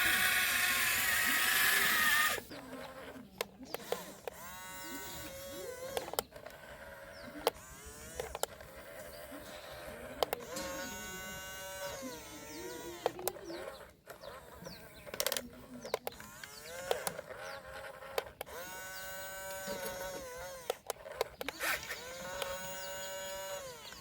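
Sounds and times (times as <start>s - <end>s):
sharp plastic clicks: 0.0s - 24.0s
toy excavator motors whining: 0.0s - 24.0s.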